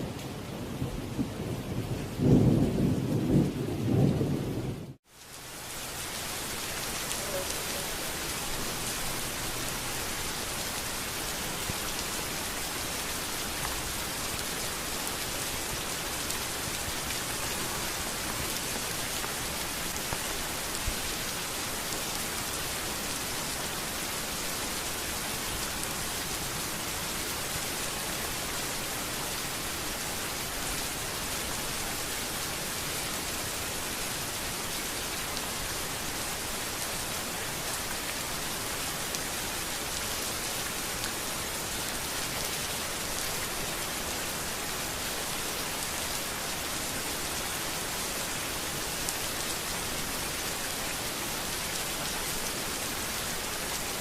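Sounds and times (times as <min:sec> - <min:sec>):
steady rain falling on street: 0:00.0 - 0:54.0.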